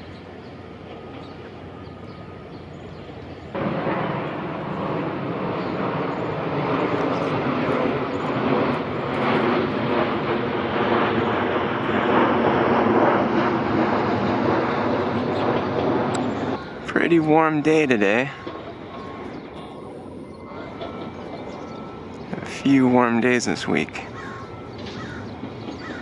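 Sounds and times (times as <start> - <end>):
jet airliner passing overhead: 0.0 - 26.0.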